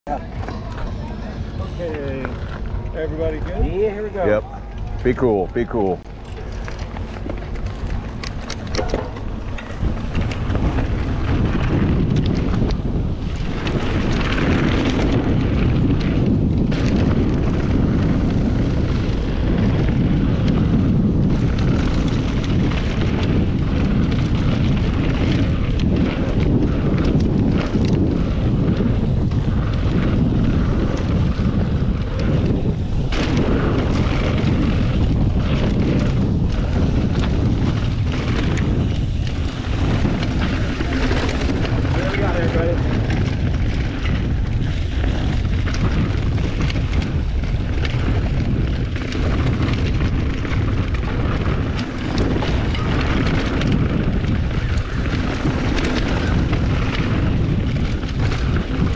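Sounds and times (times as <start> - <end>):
wind rumble on microphone: 0.0 - 58.9
bike clicking and rattling: 0.1 - 58.9
bike tyres rolling on dirt trail: 0.1 - 58.9.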